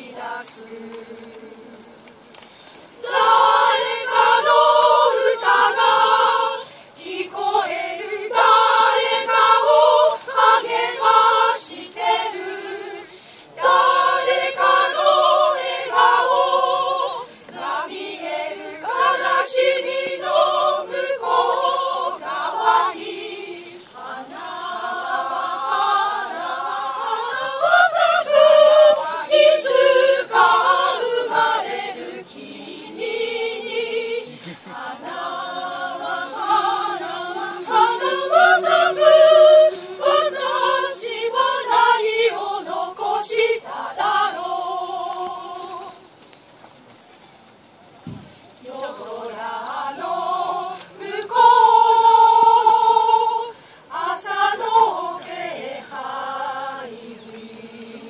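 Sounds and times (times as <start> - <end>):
small choir singing: 0.0 - 2.0, 3.0 - 46.0, 48.6 - 58.0.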